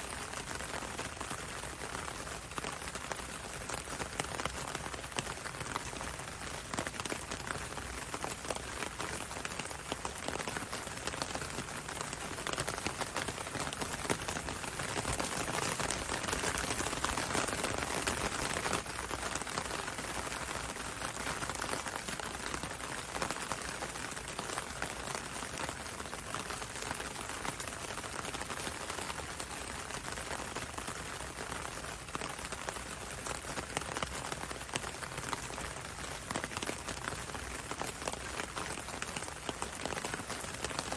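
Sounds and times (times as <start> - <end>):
rain pattering on window and road: 0.0 - 40.9.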